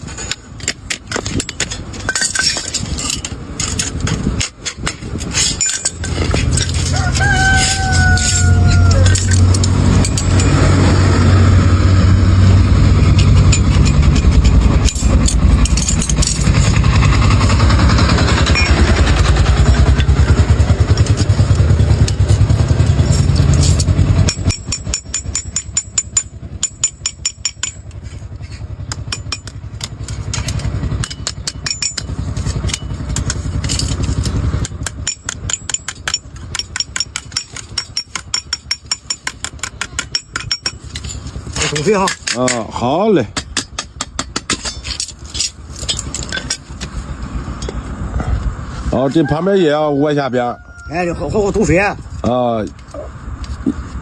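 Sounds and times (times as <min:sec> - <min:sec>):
engine running: 0:00.0 - 0:49.4.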